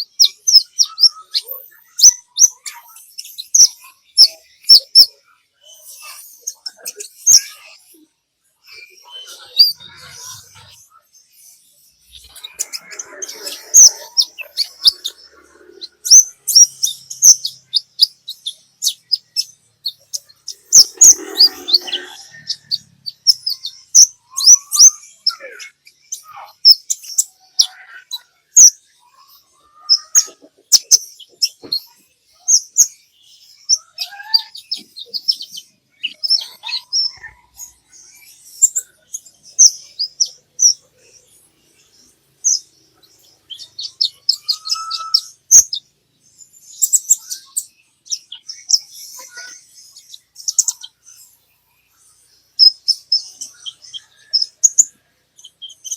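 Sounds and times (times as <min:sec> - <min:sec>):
bird chirping and twittering: 0:00.0 - 0:55.9.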